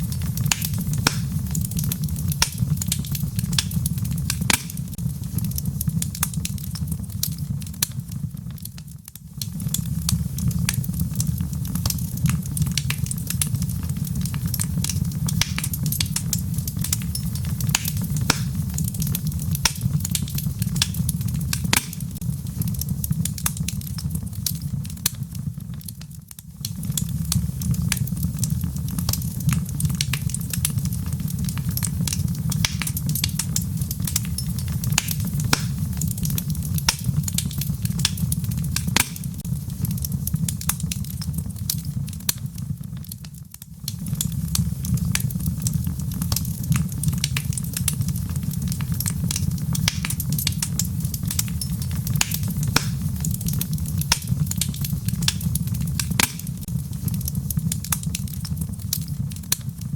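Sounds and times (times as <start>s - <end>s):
rain pattering: 0.0s - 59.9s
wood fire crackling: 0.0s - 59.9s.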